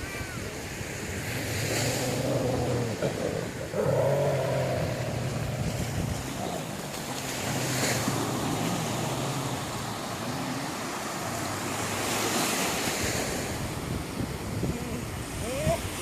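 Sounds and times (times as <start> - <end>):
waves washing on shore: 0.0 - 16.0.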